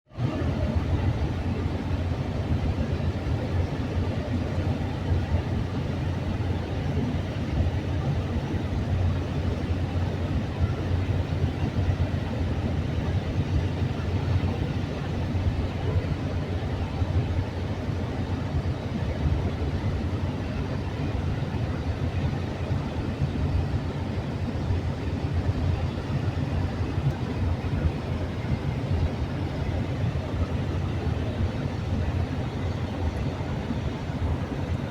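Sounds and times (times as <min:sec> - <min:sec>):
vehicle rumble: 0:00.1 - 0:34.9.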